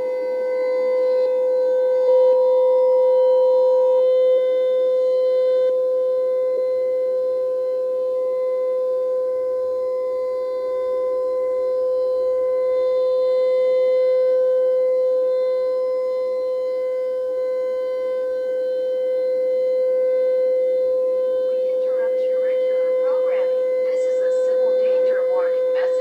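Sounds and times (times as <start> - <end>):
civil defense siren steady tone: 0.0 - 26.0.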